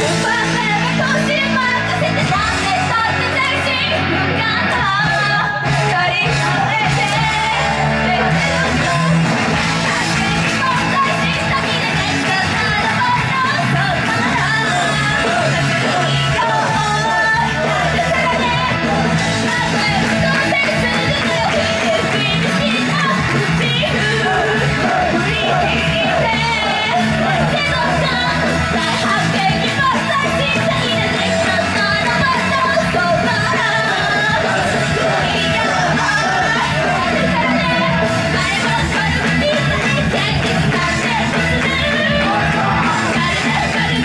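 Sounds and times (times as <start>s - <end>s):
rock band accompaniment: 0.0s - 44.0s
woman singing rock song live: 0.0s - 44.0s.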